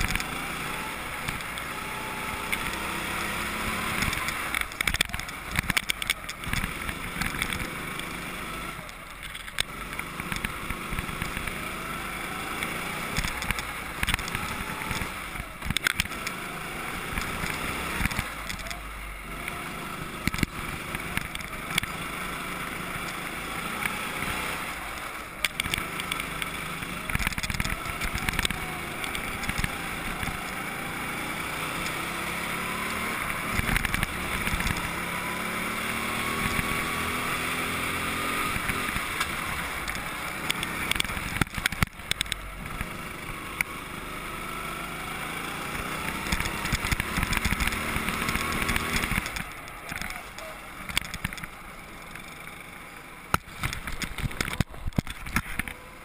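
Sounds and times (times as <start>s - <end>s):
go-kart engine accelerating: 0.0s - 56.0s.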